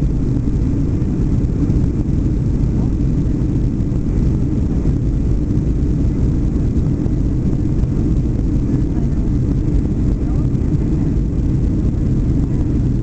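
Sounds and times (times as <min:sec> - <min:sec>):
airflow past the fuselage: 0:00.0 - 0:13.0
jet engines rumbling: 0:00.0 - 0:13.0.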